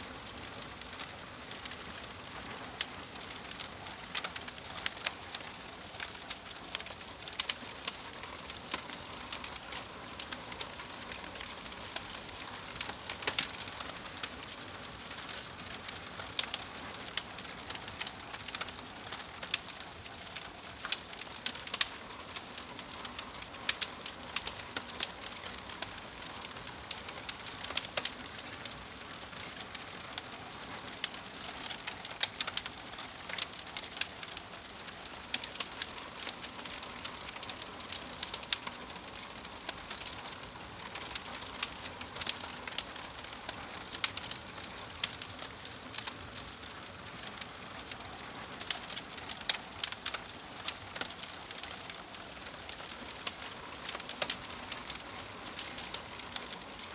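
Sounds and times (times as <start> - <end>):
fire hissing: 0.2 - 56.9
wood fire pops and snaps: 2.8 - 28.8, 29.4 - 46.6, 47.2 - 56.9.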